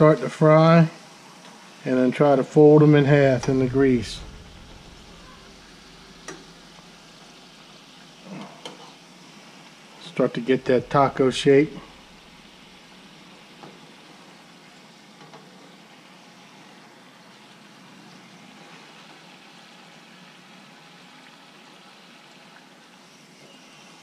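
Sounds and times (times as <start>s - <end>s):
tortilla sizzling in hot oil: 1.0s - 1.9s, 4.2s - 24.0s.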